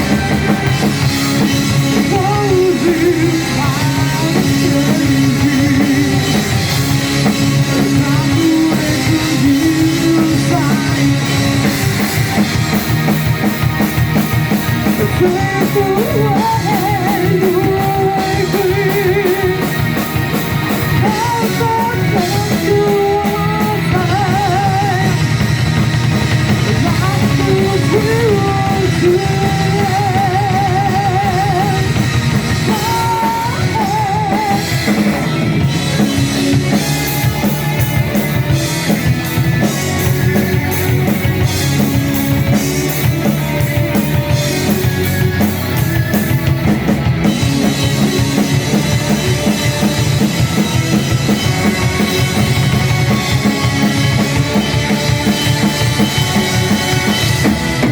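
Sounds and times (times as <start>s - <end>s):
fast drums and crashing cymbals: 0.0s - 57.9s
live rock band through pa: 0.0s - 57.9s.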